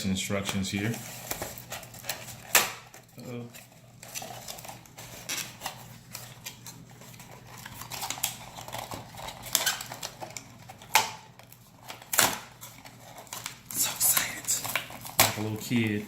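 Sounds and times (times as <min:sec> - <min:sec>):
cardboard and plastic packaging rustling: 0:00.0 - 0:16.0.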